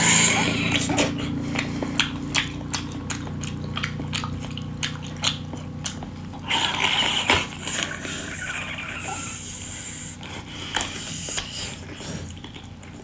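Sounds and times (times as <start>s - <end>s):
wet chewing and mouth clicks: 0.0s - 13.0s.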